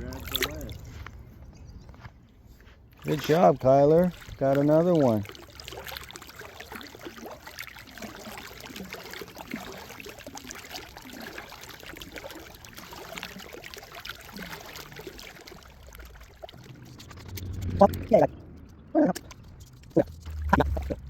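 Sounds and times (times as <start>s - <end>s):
water lapping and trickling: 0.0s - 21.0s.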